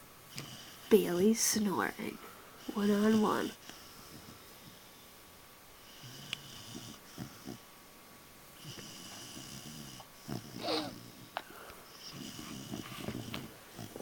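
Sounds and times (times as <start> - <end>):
puppy snoring raspily: 0.3 - 5.0, 5.8 - 7.7, 8.6 - 14.0.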